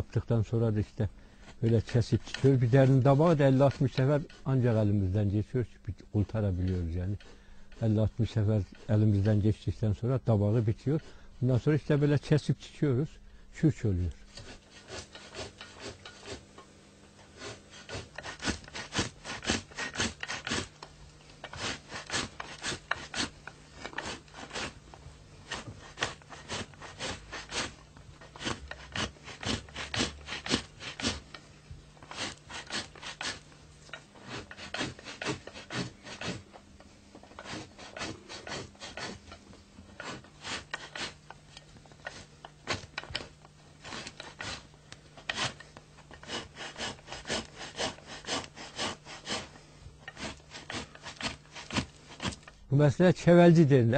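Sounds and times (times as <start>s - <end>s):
hide rasping over wooden post: 1.4s - 5.0s, 6.2s - 9.4s, 14.1s - 52.7s.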